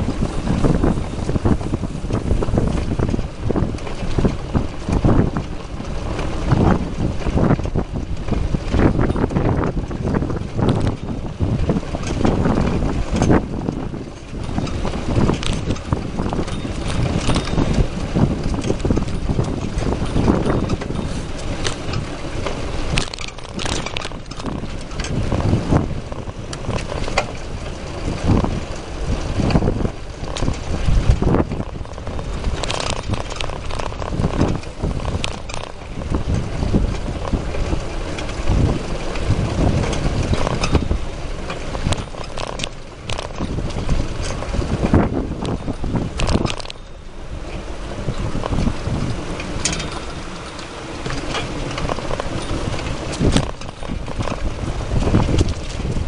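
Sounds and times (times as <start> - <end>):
bicycle knocks and rattles: 0.0 - 56.0
wind buffeting microphone: 0.0 - 56.0.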